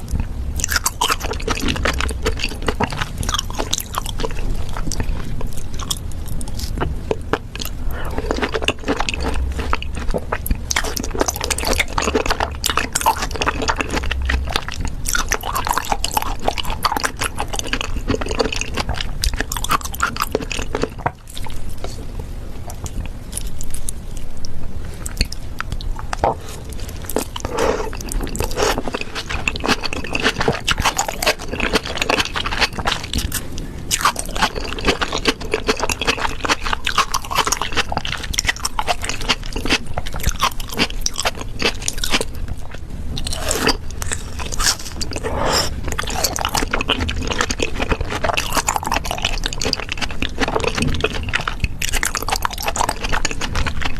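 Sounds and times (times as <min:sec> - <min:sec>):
wet chewing and crunching food: 0:00.0 - 0:53.9.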